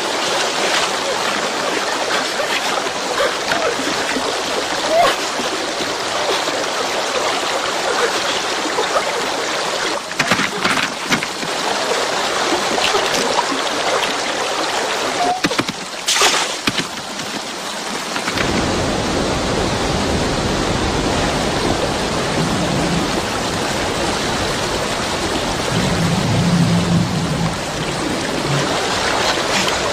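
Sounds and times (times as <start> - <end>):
river water rushing over rocks: 0.0 - 29.9.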